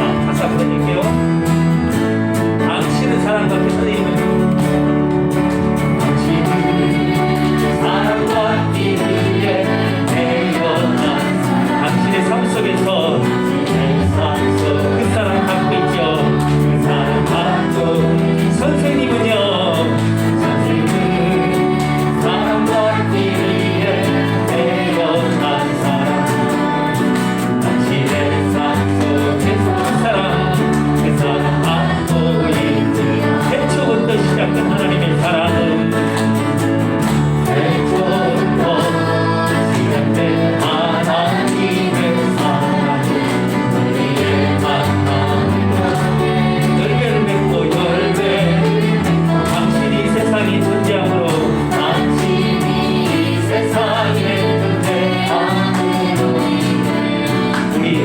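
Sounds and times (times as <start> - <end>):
bass line: 0.0 - 58.0
group singing: 0.0 - 58.0
instrumental accompaniment: 0.0 - 58.0.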